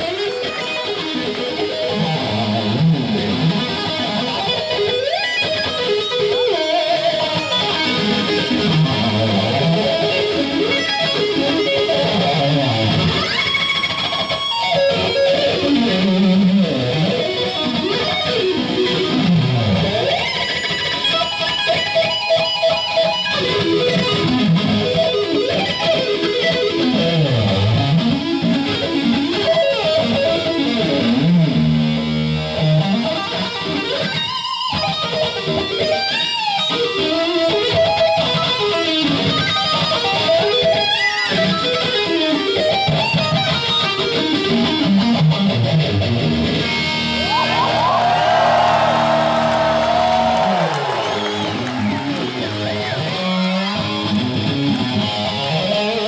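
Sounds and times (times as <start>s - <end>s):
electric guitar solo: 0.0s - 56.0s.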